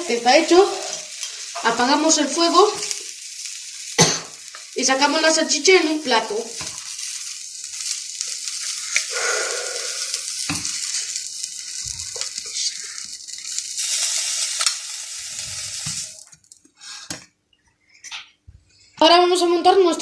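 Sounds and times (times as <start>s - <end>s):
sausages sizzling in a frying pan: 0.0s - 17.2s.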